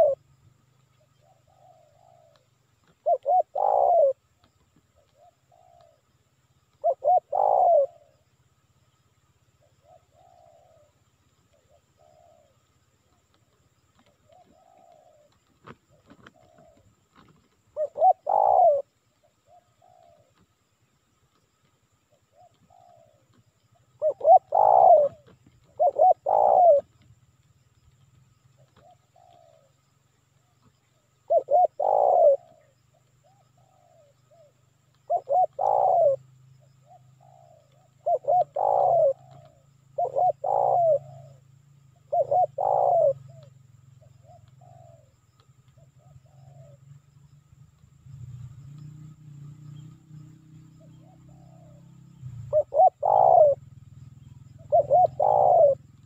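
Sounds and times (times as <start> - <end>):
dove cooing: 0.0 - 0.3, 1.0 - 6.1, 6.7 - 8.2, 9.6 - 20.5, 22.1 - 27.2, 27.9 - 29.8, 30.4 - 47.3, 50.5 - 56.0.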